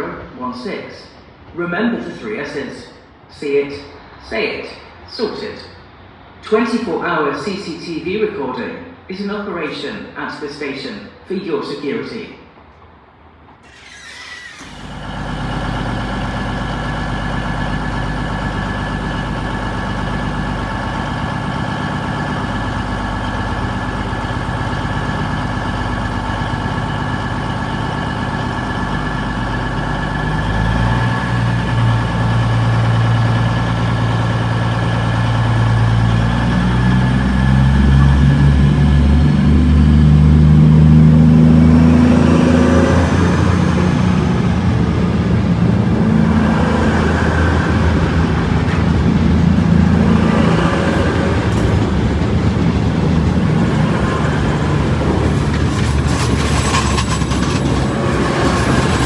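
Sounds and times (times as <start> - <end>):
train diesel engines: 0.0 - 59.0.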